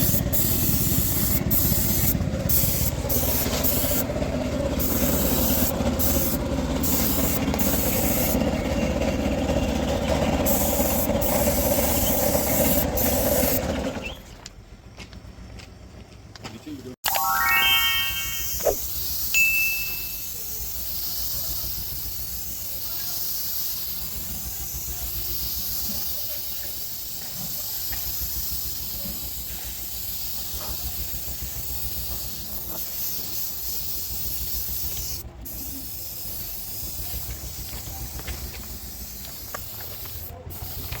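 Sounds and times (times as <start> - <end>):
spray paint hissing: 0.0 - 8.6, 10.2 - 13.7, 17.2 - 41.0.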